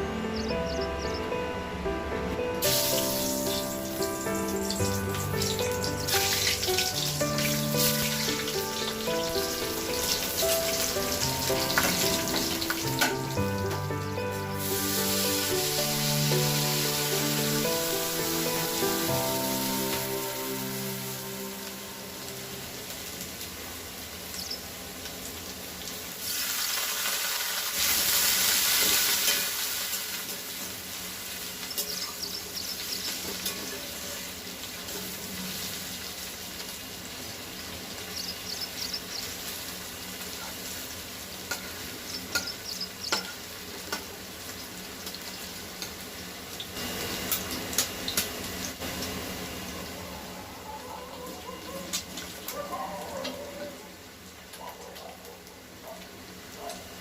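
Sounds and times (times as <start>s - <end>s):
food sizzling in a pan: 2.6s - 50.0s.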